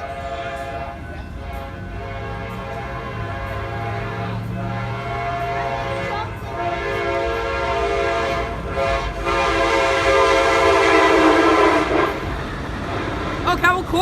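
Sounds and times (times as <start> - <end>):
train horn chord: 0.0 - 13.4.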